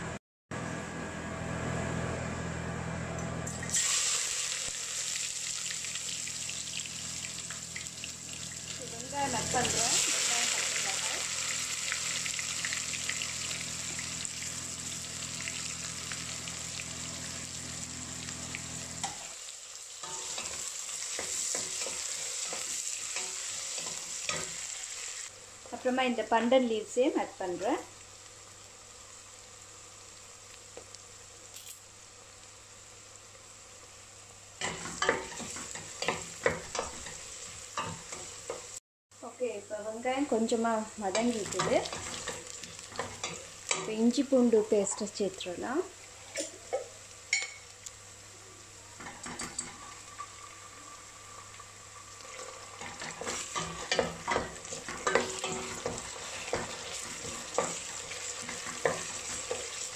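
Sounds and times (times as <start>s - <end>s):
onions sizzling in oil: 3.5s - 59.9s.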